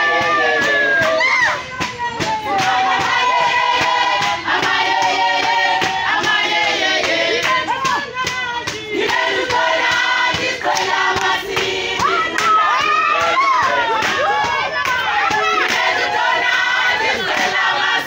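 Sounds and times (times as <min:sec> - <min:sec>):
people clapping: 0:00.0 - 0:18.0
women singing in chorus: 0:00.0 - 0:18.0.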